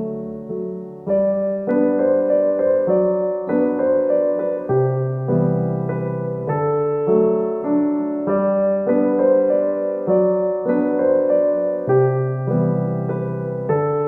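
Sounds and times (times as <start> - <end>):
gentle piano tune: 0.0 - 14.0.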